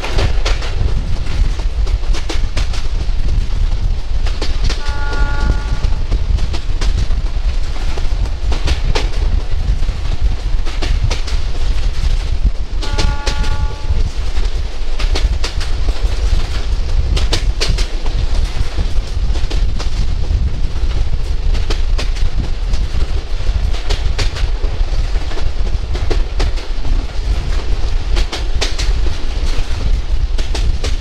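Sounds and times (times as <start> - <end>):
train rumbling: 0.0 - 31.0
wheels clicking over rail joints: 6.0 - 31.0.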